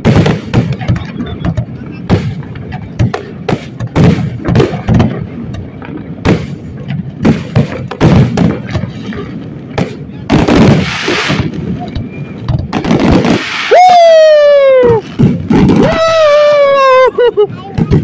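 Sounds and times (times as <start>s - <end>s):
fireworks booming: 0.0s - 18.0s
hissing crackle of fireworks: 0.0s - 18.0s.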